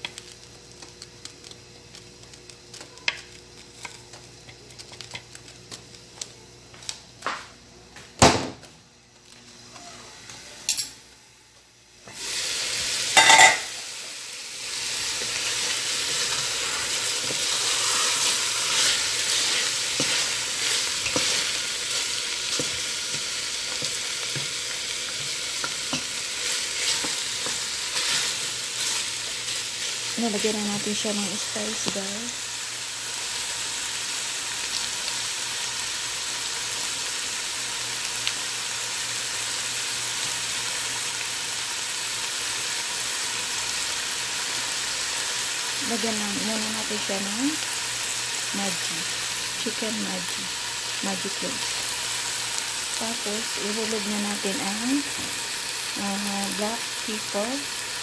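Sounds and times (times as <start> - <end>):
chicken sizzling in a pot: 0.0 - 58.0.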